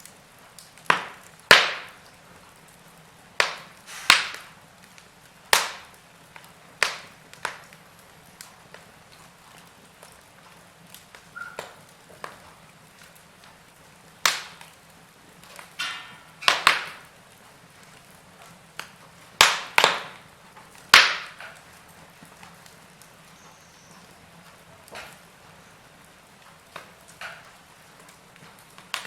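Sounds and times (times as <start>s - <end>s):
burning logs crackling: 0.0s - 29.0s.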